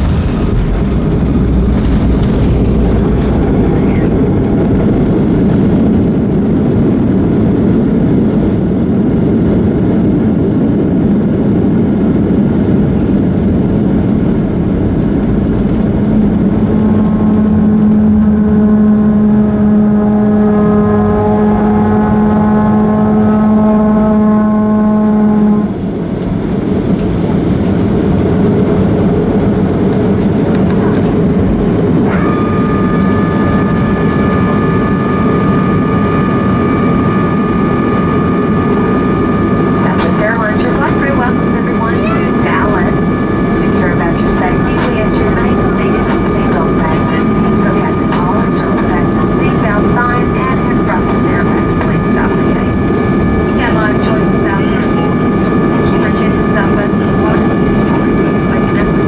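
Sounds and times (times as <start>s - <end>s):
airliner cabin rumble: 0.0s - 59.0s
steady whine: 0.0s - 59.0s.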